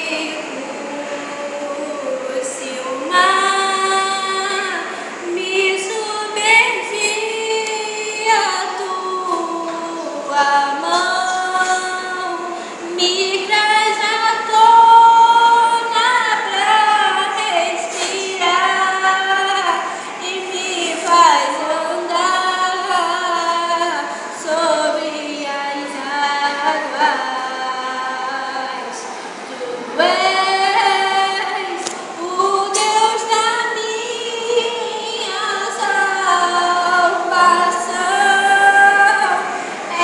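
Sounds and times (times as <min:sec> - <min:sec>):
woman singing: 0:00.0 - 0:29.1, 0:29.8 - 0:40.0.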